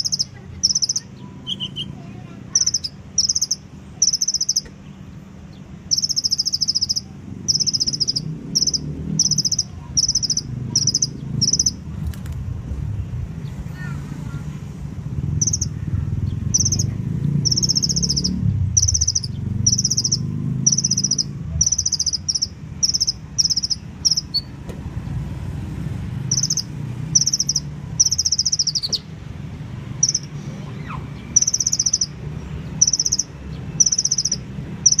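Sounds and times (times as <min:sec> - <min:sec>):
sunbird chirping trills: 0:00.0 - 0:11.8, 0:15.2 - 0:24.6, 0:26.2 - 0:29.2, 0:29.9 - 0:35.0
steady low hum: 0:00.0 - 0:35.0.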